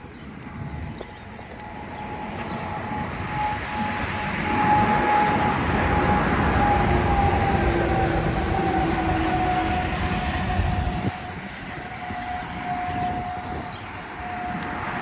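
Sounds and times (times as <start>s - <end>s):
passing traffic: 0.0s - 15.0s
steady whine: 0.0s - 15.0s.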